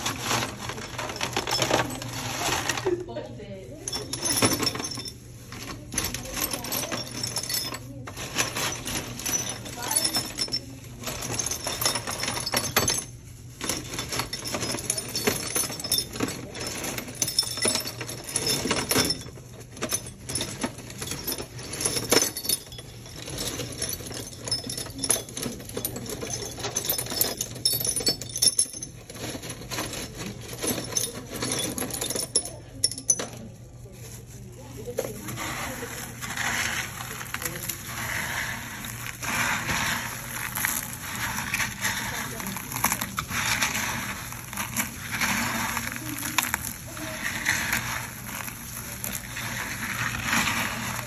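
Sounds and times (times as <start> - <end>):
ceramic tile pieces clinking: 0.0 - 3.0, 3.7 - 33.7, 34.8 - 51.0.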